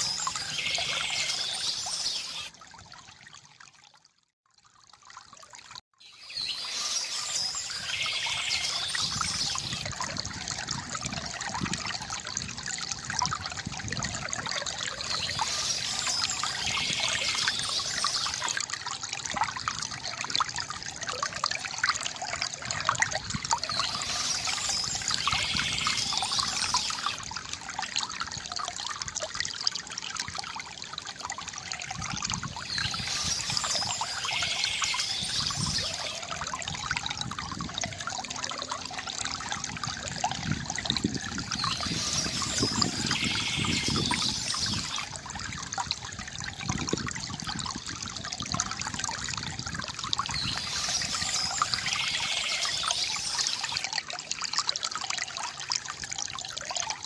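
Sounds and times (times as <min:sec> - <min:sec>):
bamboo fountain water trickling: 0:00.0 - 0:57.0.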